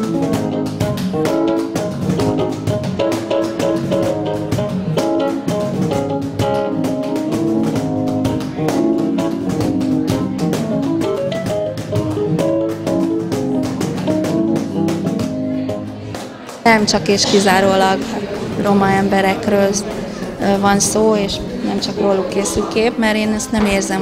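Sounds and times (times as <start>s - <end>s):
plucked guitar music: 0.0s - 22.0s
steady beat of sharp strokes: 0.0s - 22.8s.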